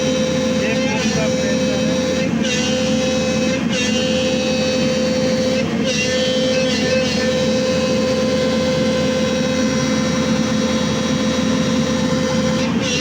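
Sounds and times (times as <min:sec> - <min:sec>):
excavator engine running: 0:00.0 - 0:13.0
hydraulic pump whine: 0:00.0 - 0:13.0.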